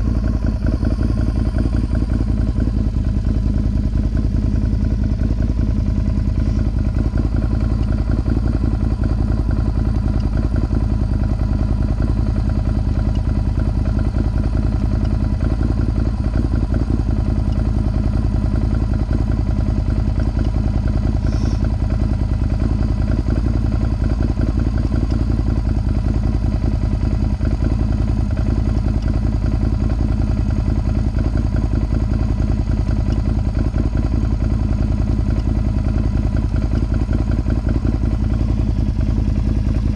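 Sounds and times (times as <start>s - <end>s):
atv engine idling: 0.0s - 39.9s.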